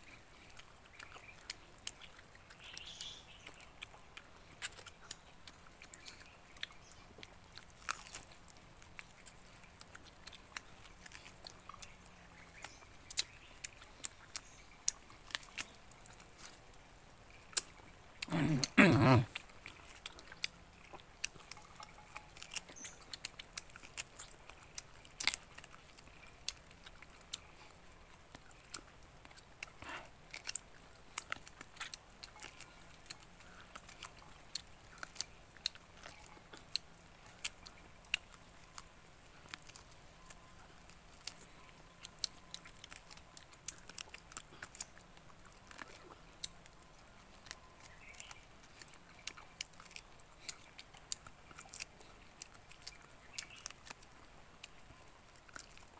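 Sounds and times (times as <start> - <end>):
chewing chicken smacking: 0.0 - 55.9.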